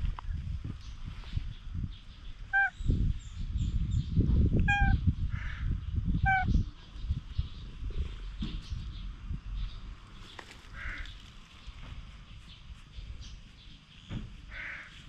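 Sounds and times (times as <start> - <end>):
low rustling and rumbling: 0.0 - 15.0.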